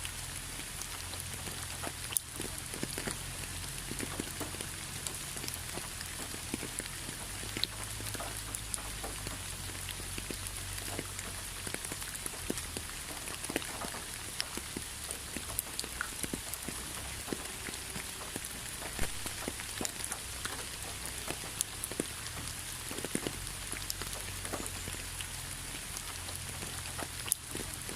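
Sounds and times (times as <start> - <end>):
rain drops ticking on a surface: 0.0 - 27.9
rain hiss: 0.0 - 27.9.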